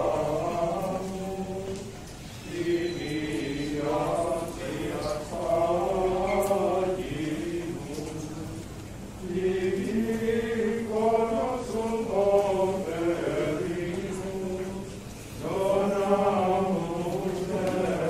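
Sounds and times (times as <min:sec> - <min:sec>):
unaccompanied sung chanting: 0:00.0 - 0:18.0.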